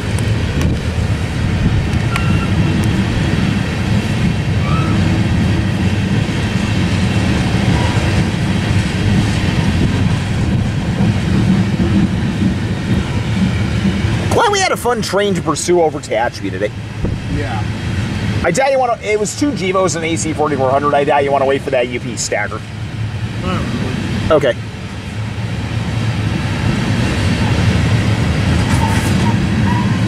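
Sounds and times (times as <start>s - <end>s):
freight train wheels on rails: 0.0s - 30.0s.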